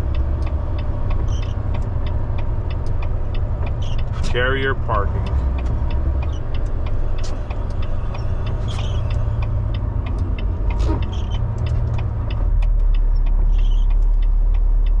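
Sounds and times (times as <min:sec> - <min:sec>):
diesel engine rumbling: 0:00.0 - 0:15.0
light sharp ticks: 0:00.1 - 0:15.0.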